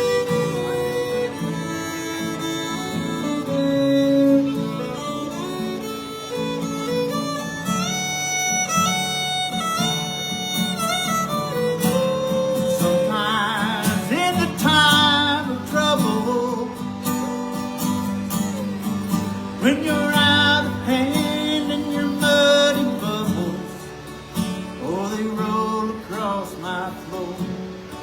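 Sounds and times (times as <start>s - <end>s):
acoustic guitar accompaniment: 0.0s - 28.0s
fiddle melody: 0.0s - 28.0s.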